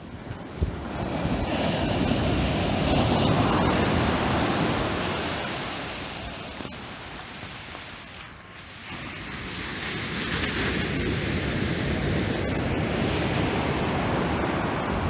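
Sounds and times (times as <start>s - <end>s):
surf breaking on a beach: 0.0s - 15.0s.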